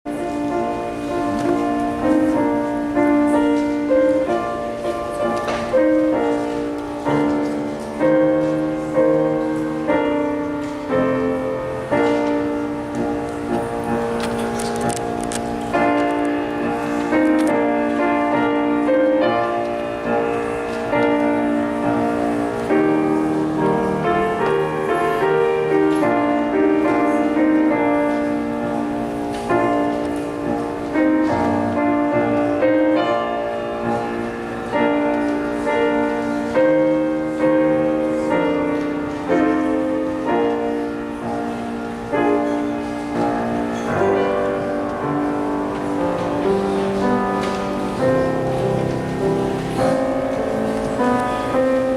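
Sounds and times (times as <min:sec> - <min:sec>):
slow piano chords: 0:00.0 - 0:51.9.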